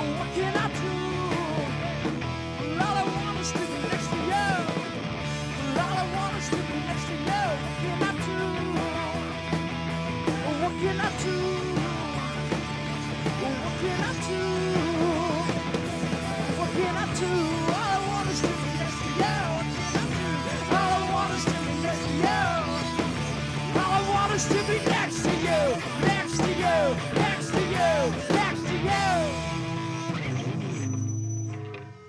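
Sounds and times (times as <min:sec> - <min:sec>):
live rock band playing: 0:00.0 - 0:30.9.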